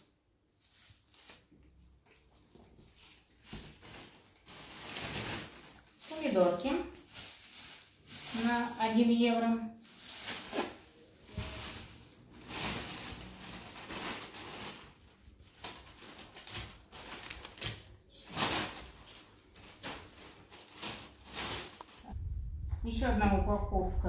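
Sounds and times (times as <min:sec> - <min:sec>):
plastic bags rustling: 0:00.0 - 0:22.2.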